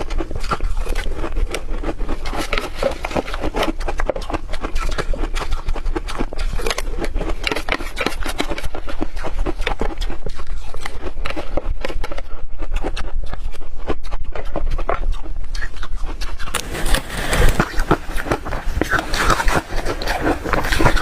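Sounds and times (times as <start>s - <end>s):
ice being chewed: 0.0s - 21.0s.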